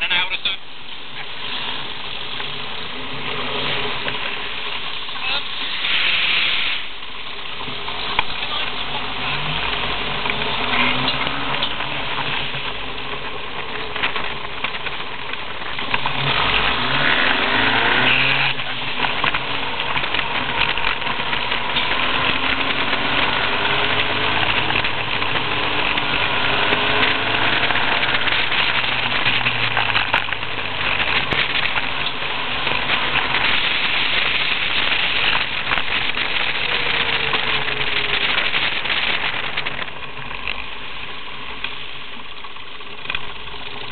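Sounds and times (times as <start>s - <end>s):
wind and road noise: 0.0s - 43.9s
car engine running: 6.8s - 43.9s.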